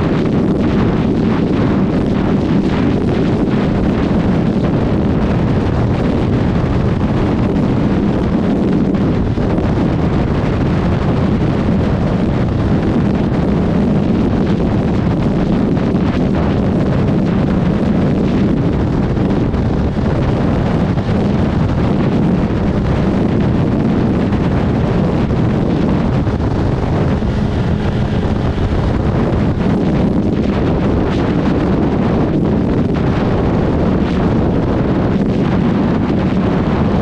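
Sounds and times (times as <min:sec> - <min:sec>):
motorcycle engine droning: 0:00.0 - 0:37.0
wind rushing over microphone: 0:00.0 - 0:37.0.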